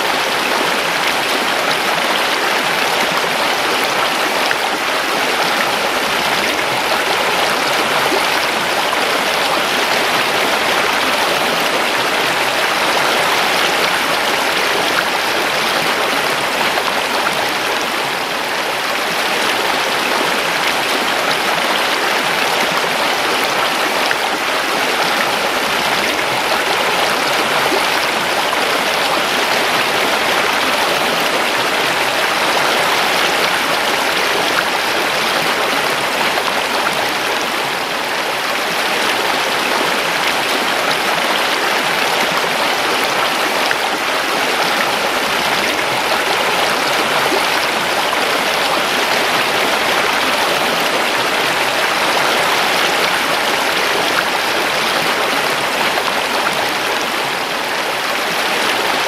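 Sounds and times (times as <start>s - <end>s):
river water running over rocks: 0.0s - 59.0s.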